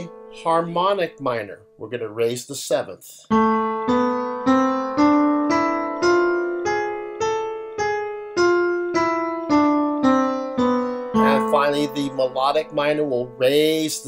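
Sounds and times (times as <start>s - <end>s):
piano scale single notes: 0.0s - 2.2s, 3.2s - 14.0s.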